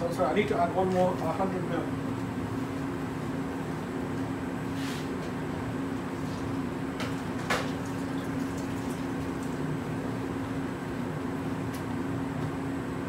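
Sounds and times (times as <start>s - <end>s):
extractor fan humming: 0.0s - 13.0s.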